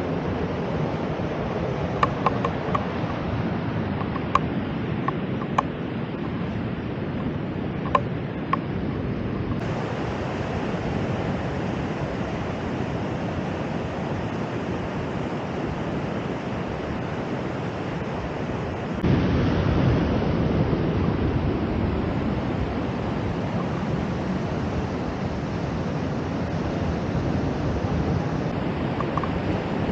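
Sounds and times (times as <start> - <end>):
ocean surf rushing: 0.0 - 29.9
wind on microphone: 0.0 - 29.9.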